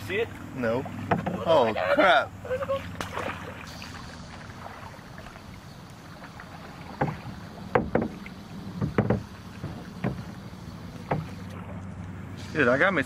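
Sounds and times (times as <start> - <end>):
steady low hum: 0.0 - 13.0
knocks and clunks in a canoe: 0.3 - 2.0, 2.7 - 12.2.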